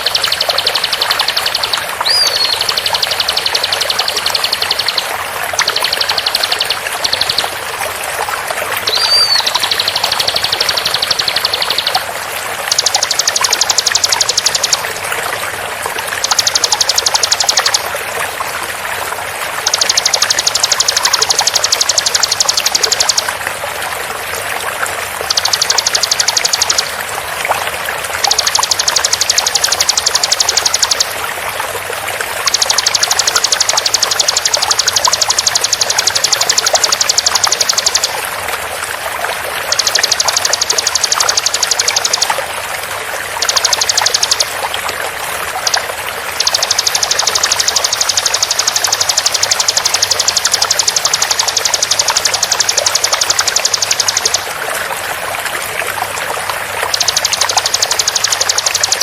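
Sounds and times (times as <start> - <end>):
bird fast repeated notes: 0.0 - 23.8, 24.5 - 31.6, 32.2 - 59.0
flowing water: 0.0 - 59.0.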